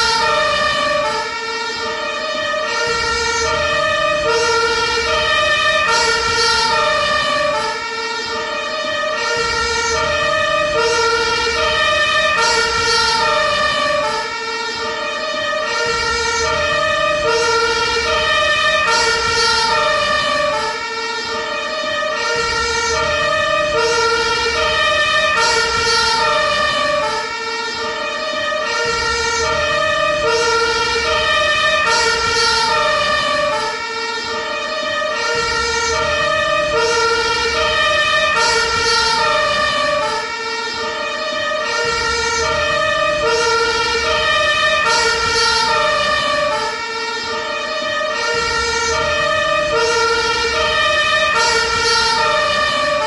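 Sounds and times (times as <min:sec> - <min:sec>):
ambulance two-tone siren: 0:00.0 - 0:53.0.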